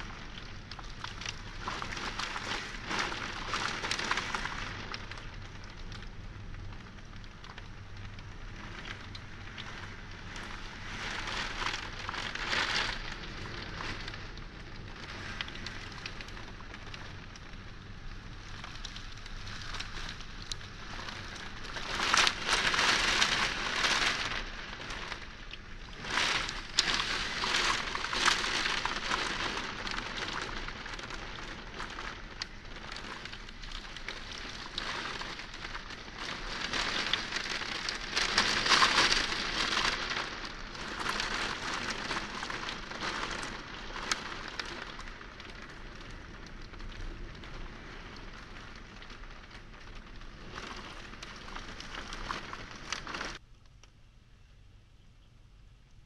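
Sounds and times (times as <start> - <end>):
heavy rain pouring: 0.0 - 53.4.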